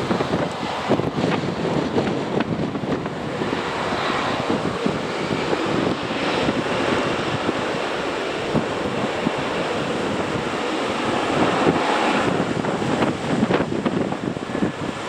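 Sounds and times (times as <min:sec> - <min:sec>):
jet engines rushing: 0:00.0 - 0:15.0
wind buffeting microphone: 0:00.0 - 0:15.0.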